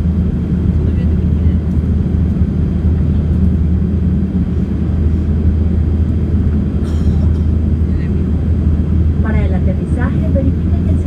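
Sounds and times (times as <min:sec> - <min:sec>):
airplane cabin engine rumble: 0:00.0 - 0:11.0
constant low hum: 0:00.0 - 0:11.0.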